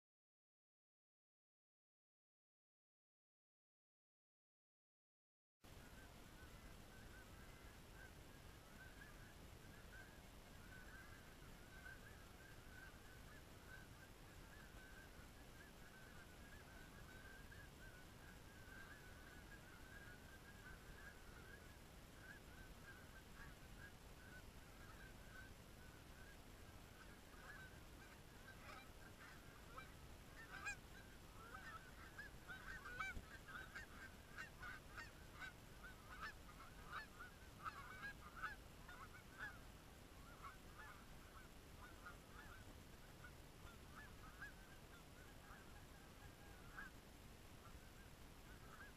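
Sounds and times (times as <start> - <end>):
geese honking: 5.8 - 47.0, 47.6 - 48.9.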